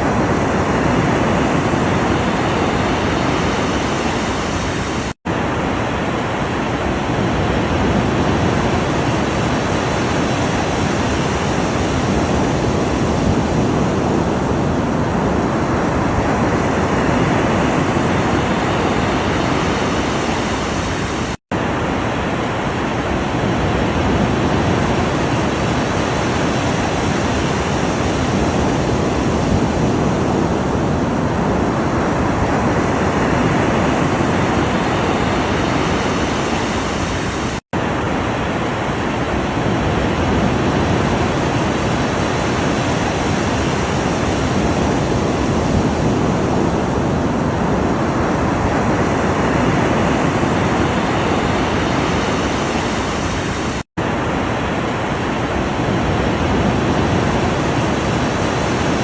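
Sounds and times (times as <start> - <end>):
ocean surf rushing: 0.0 - 59.0.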